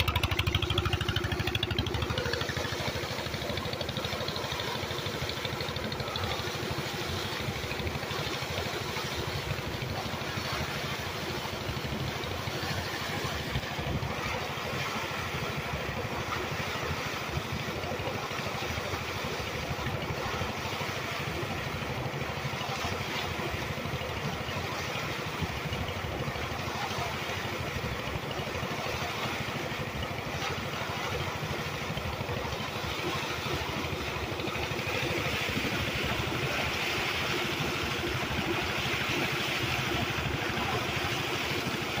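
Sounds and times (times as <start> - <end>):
pump engine running: 0.0 - 42.0
water gushing and splashing on walls: 0.0 - 42.0.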